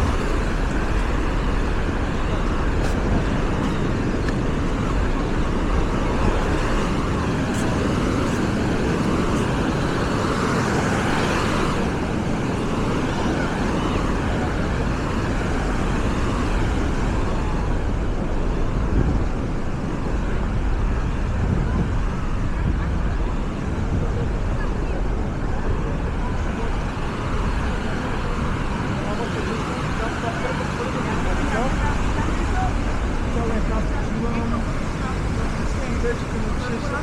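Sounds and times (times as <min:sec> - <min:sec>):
people chattering: 0:00.0 - 0:37.0
surf washing: 0:00.0 - 0:37.0
wind: 0:00.0 - 0:37.0.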